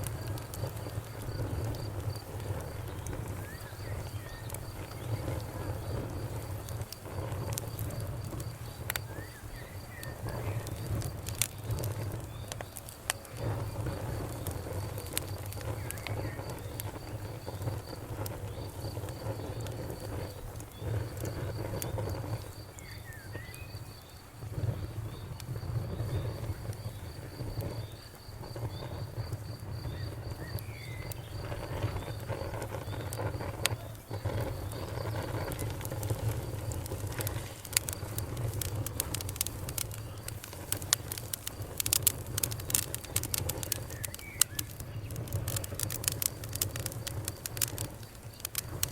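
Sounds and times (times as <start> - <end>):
low rumble of flames: 0.0 - 48.9
wood fire crackling and popping: 0.0 - 48.9.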